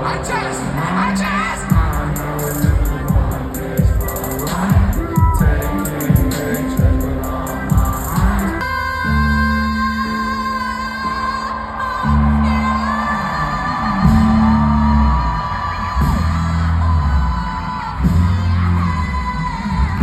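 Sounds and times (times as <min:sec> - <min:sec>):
heavy bass notes: 0:00.0 - 0:10.7, 0:12.1 - 0:20.0
live hip-hop music: 0:00.0 - 0:20.0
sung vocal with held notes: 0:00.0 - 0:20.0.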